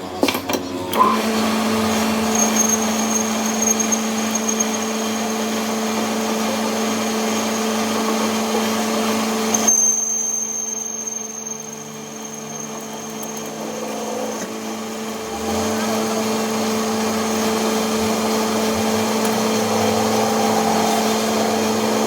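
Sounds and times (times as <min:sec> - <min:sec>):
electric workshop machine humming: 0:00.0 - 0:22.0.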